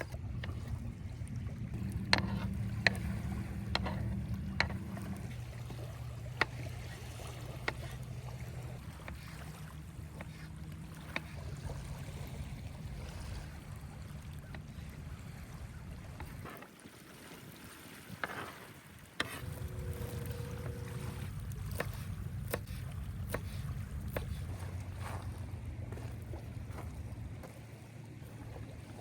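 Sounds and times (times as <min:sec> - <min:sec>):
motorboat engine droning: 0:00.0 - 0:16.6, 0:19.1 - 0:29.0.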